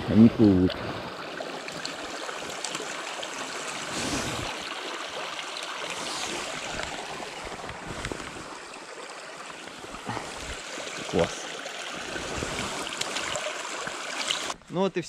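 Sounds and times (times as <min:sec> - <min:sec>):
stream running over stones: 0:00.0 - 0:14.6.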